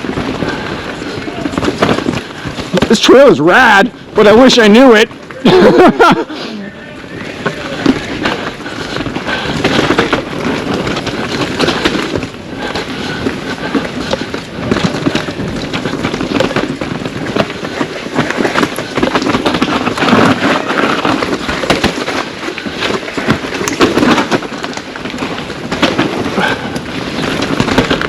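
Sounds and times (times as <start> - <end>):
bike rattling: 0.0 - 28.0
tyres crunching over dirt and rocks: 0.0 - 28.0.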